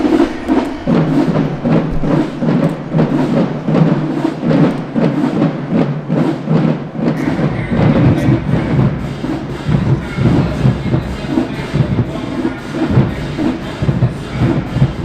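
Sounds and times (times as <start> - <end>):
drumline marching cadence: 0.0 - 15.0.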